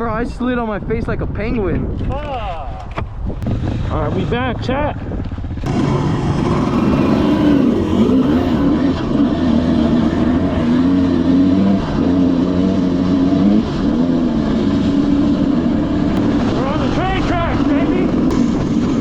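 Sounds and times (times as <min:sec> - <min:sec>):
dirt bike engine revving: 0:03.4 - 0:19.0.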